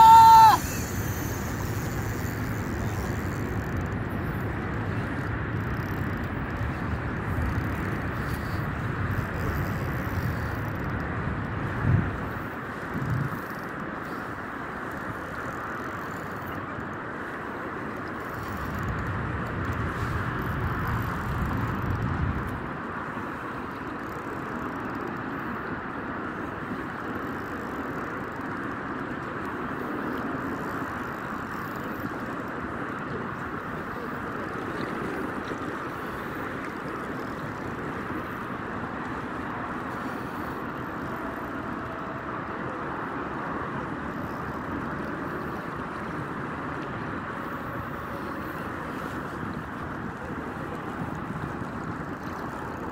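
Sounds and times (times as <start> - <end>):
shallow sea water: 0.0 - 52.9
wind: 0.0 - 52.9
wind rumble on microphone: 0.0 - 52.9.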